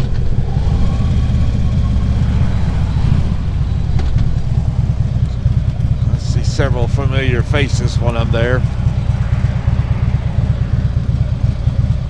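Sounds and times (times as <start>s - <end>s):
motorcycle engine rumbling: 0.0s - 12.0s
wind and road noise: 0.0s - 12.0s.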